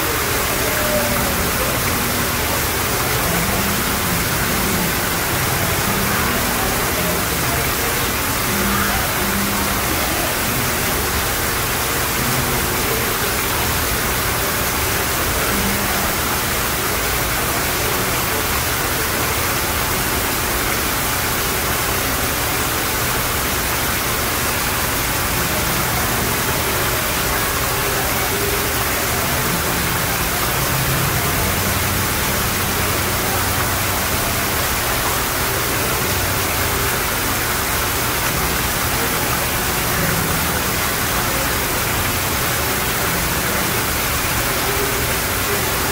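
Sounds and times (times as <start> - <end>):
waterfall splashing into pond: 0.0 - 45.9.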